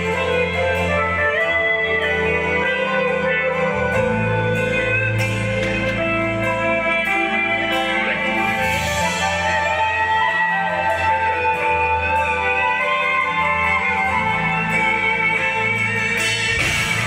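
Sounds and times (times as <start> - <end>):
bass line: 0.0 - 17.0
guitars: 0.0 - 17.0
pop-rock band playing: 0.0 - 17.0.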